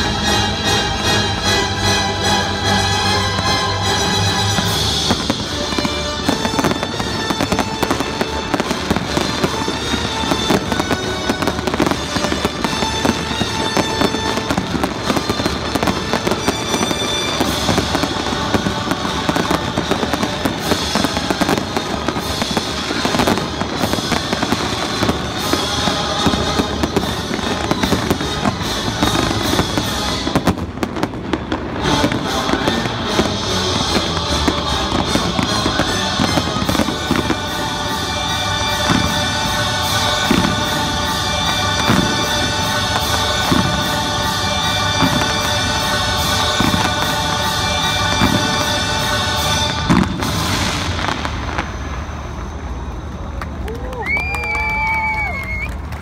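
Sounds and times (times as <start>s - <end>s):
music playing: 0.0s - 54.0s
fireworks bangs and crackles: 0.0s - 56.0s.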